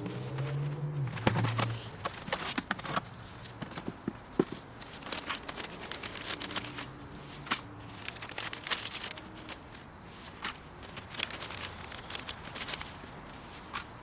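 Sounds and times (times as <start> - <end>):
soil rustling in plastic pot: 0.0 - 14.0.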